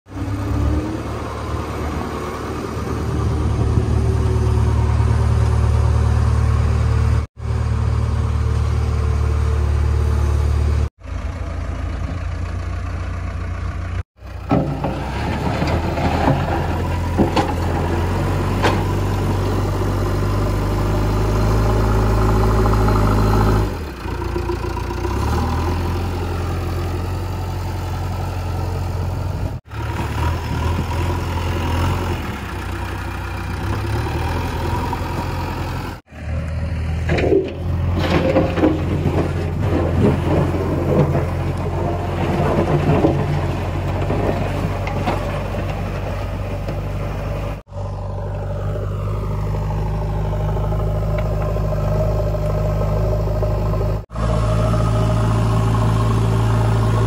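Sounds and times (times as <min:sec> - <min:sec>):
diesel construction machines running: 0:00.1 - 0:57.0.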